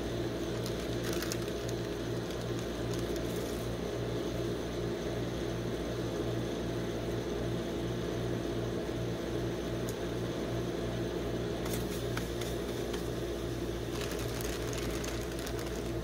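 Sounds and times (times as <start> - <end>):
refrigeration compressor hum: 0.0 - 16.0.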